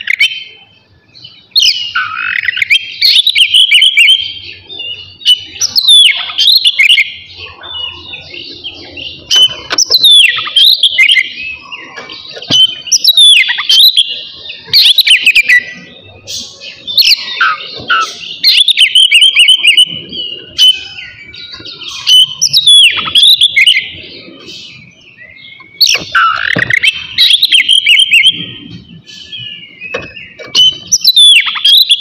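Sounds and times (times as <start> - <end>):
bird singing whistled phrases: 1.2 - 32.0.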